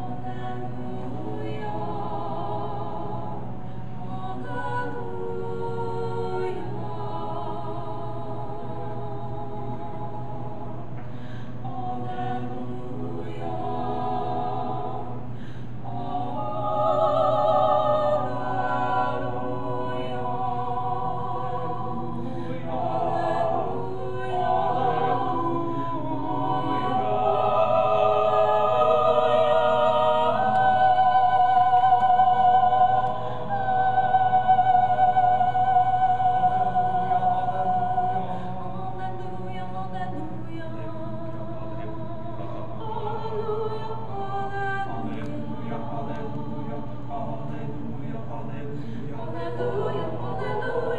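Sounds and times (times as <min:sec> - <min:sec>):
vocal quartet singing classical: 0:00.0 - 0:50.9.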